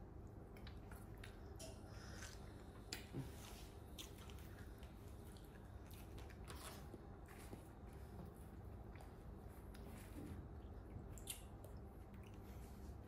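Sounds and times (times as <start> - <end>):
low room noise: 0.0 - 13.0
child chewing: 0.2 - 13.0.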